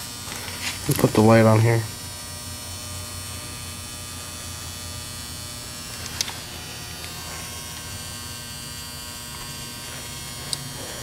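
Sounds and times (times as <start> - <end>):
parts cleaner electric buzzing hum: 0.0 - 11.0.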